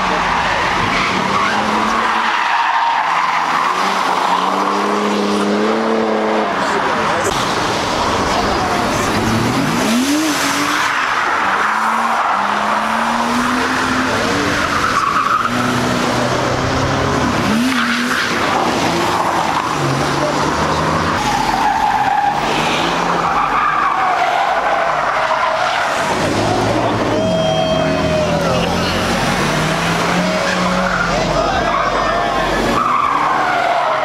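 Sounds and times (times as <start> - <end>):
car engine revving hard: 3.0 - 23.8, 25.8 - 34.0.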